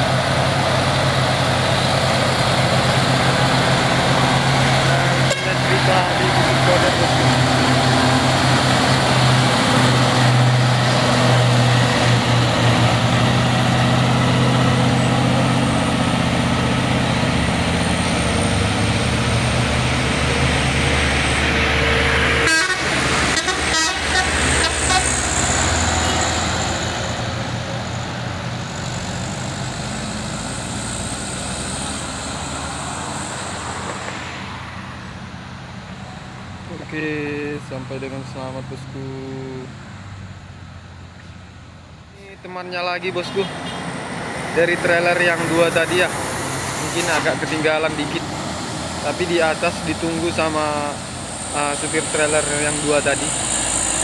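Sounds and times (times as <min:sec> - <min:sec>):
truck diesel engine labouring: 0:00.0 - 0:54.0.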